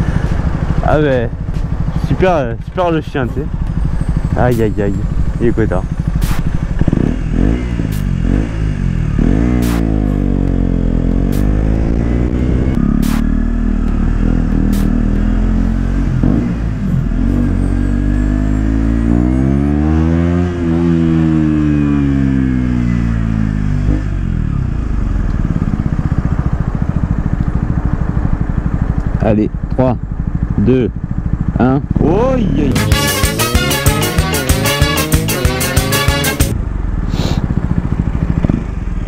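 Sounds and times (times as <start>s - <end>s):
motorcycle engine idling: 0.0s - 17.2s, 22.6s - 39.0s
motorcycle engine revving: 0.0s - 39.0s.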